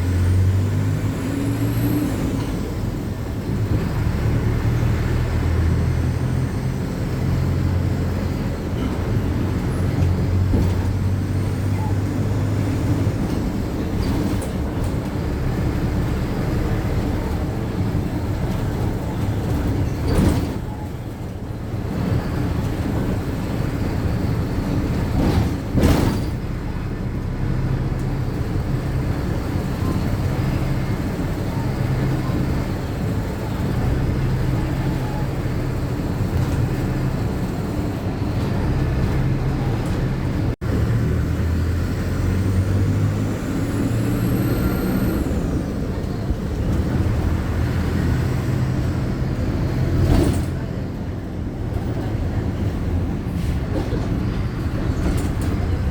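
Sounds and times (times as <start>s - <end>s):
bus engine drone: 0.0s - 55.9s
road rumble: 0.0s - 55.9s.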